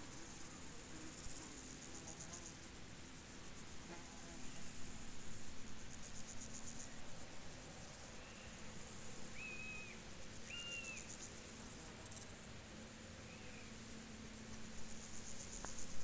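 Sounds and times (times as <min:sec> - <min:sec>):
crickets chirping: 0:00.2 - 0:16.0.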